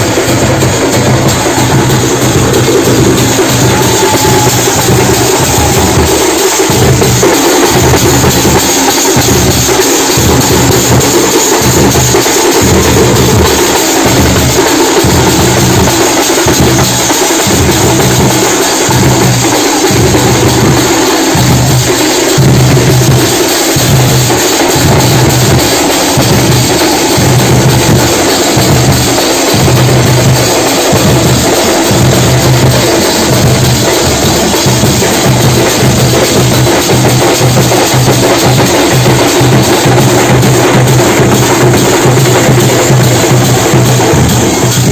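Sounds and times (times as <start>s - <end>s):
drums beaten with sticks: 0.0s - 44.9s
heavy low drum beat: 0.0s - 44.9s.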